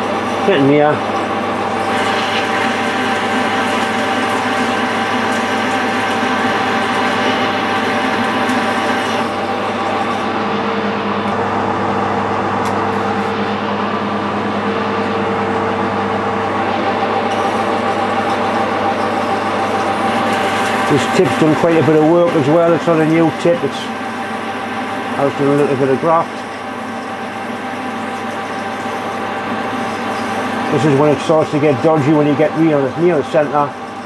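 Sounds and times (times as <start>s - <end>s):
metal lathe motor and gear whine: 0.0s - 34.0s.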